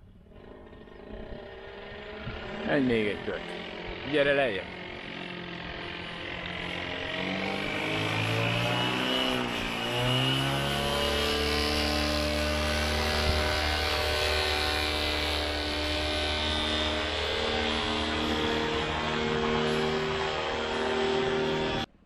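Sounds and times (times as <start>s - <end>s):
paramotor engine and propeller: 0.0s - 22.0s.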